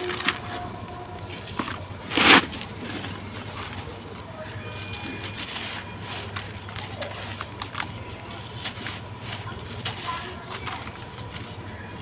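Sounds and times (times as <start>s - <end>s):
gritty crunching of blocks: 0.0s - 12.0s.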